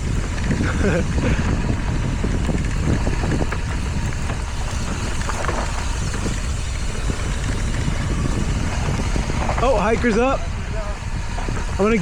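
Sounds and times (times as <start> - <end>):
bike rattling and knocking: 0.0 - 12.0
bike tyres rumbling on dirt: 0.0 - 12.0
wind buffeting microphone: 0.0 - 12.0.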